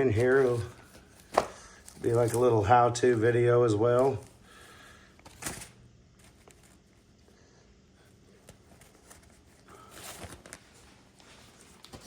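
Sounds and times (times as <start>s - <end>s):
paper bag handling rustle: 0.0s - 4.4s, 5.2s - 7.0s, 8.4s - 12.0s.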